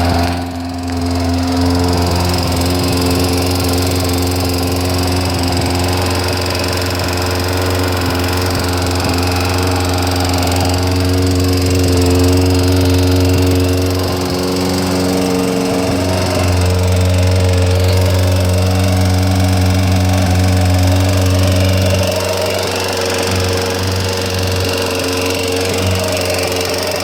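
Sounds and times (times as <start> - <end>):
engine mechanical rattle: 0.0 - 27.0
motorcycle engine running: 0.0 - 27.0.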